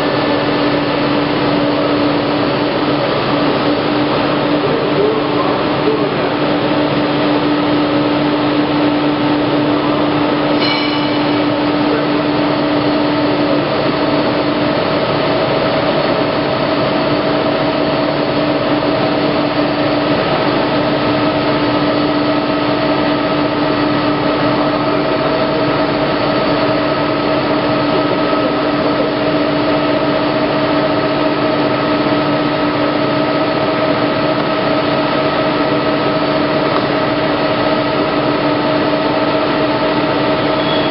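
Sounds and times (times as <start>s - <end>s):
plate rolling machine humming: 0.0s - 40.9s.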